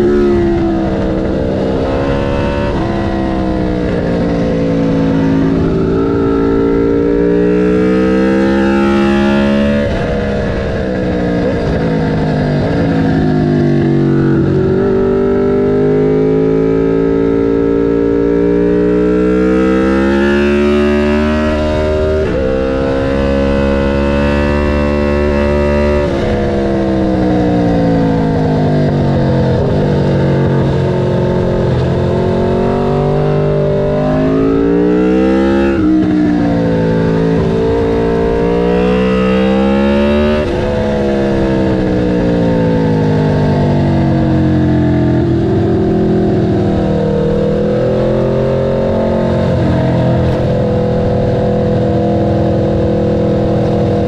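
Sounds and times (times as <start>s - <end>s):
motorcycle engine revving at speed: 0.0s - 54.0s.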